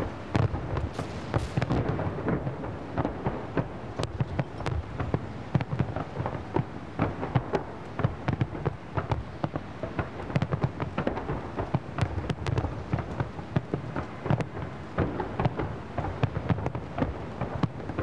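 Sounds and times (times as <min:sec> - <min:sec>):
fireworks booming and crackling: 0:00.0 - 0:18.0
low rolling noise: 0:00.0 - 0:18.0.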